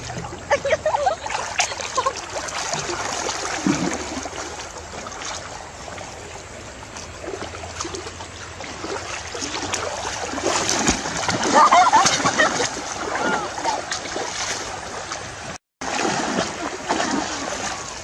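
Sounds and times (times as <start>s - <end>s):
people wading through river water: 0.0s - 18.0s.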